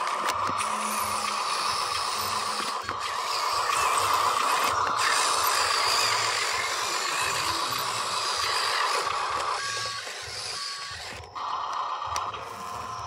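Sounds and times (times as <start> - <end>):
toy truck electric motor whining: 0.0 - 13.0.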